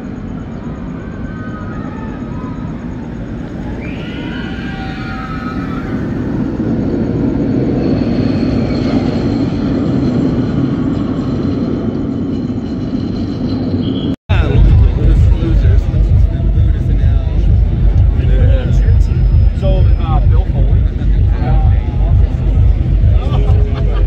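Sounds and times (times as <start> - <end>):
high squeals: 0.0 - 23.2
roller coaster rumbling on track: 0.0 - 24.0.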